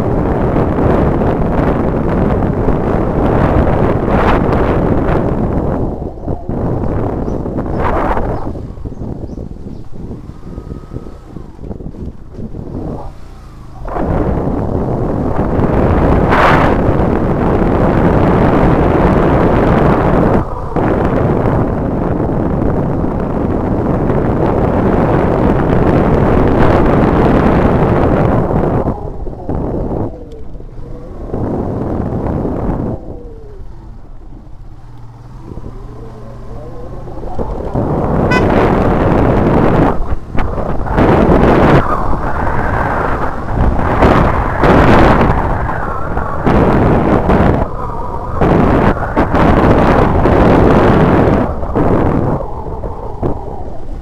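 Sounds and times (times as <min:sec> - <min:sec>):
motorcycle engine running: 0:00.0 - 0:45.2
wind buffeting microphone: 0:00.0 - 0:54.0.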